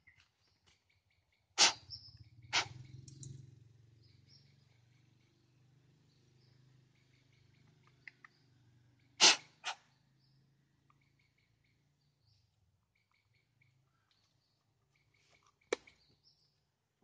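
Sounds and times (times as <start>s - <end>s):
faint bird chirps: 0.0s - 16.7s.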